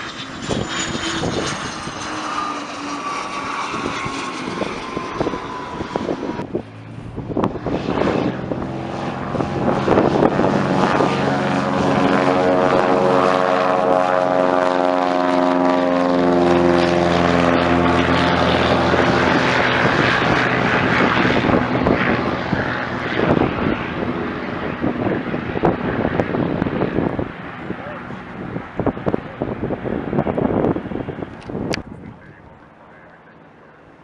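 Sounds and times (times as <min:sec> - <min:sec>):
propeller airplane engine passing: 0:00.0 - 0:34.0.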